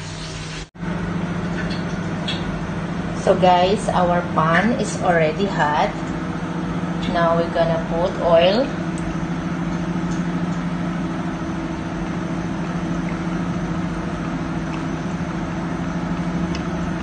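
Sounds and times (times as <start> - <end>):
appliance motor humming: 1.0 - 17.0.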